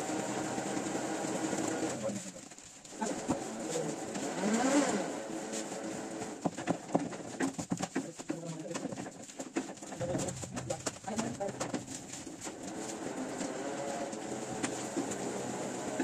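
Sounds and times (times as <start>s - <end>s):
paper rustling and tapping: 0.4s - 4.4s, 5.4s - 16.0s.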